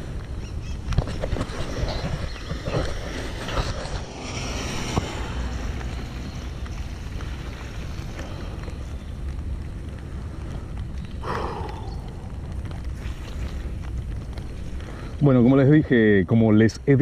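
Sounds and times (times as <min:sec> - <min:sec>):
rain hiss on wet pavement: 0:00.0 - 0:02.5, 0:03.1 - 0:17.0
wind buffeting microphone: 0:00.0 - 0:17.0.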